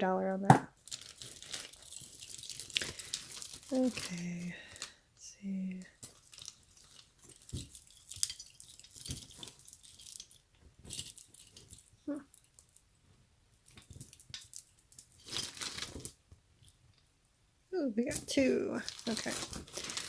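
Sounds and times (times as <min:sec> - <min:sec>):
jewelry clinking and rattling: 0:00.5 - 0:16.8, 0:18.1 - 0:20.0.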